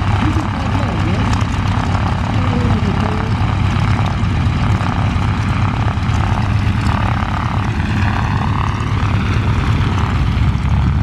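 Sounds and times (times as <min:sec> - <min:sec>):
propeller plane engines running: 0:00.0 - 0:11.0.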